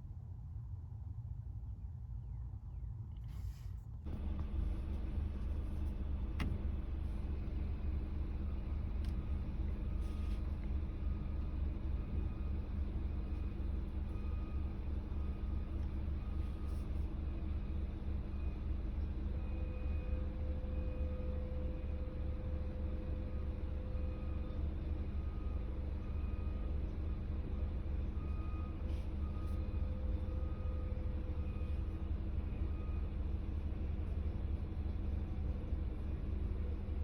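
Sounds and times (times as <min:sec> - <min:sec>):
vehicle engine rumbling: 0:03.2 - 0:37.0.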